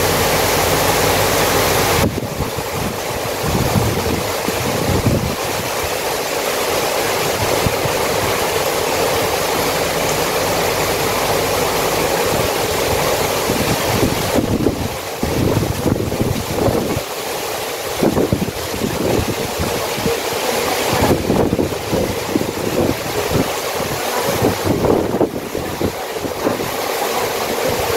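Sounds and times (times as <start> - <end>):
heavy rain pouring: 0.0 - 27.9
wind gusting on microphone: 0.0 - 27.9.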